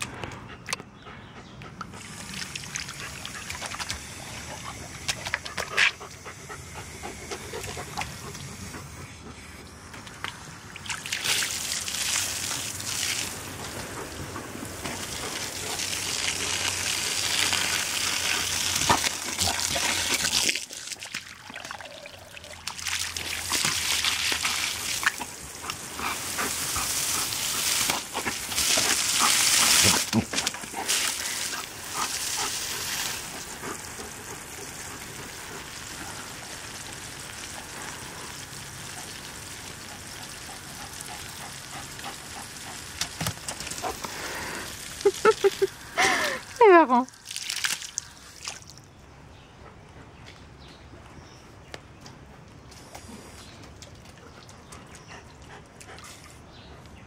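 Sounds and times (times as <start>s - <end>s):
hose water spray splashing: 2.0s - 48.8s.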